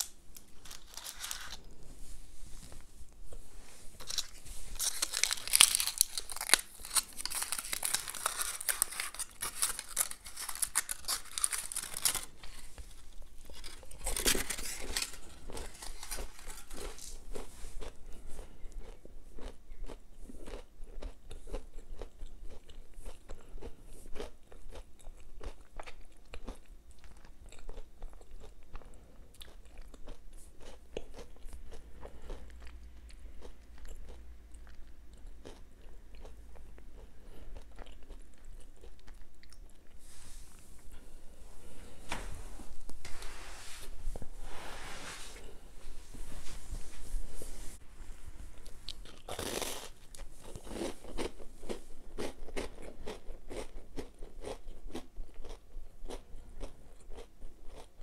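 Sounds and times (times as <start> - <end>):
crunching and chewing: 0.0 - 1.8, 3.9 - 40.0, 48.6 - 58.0.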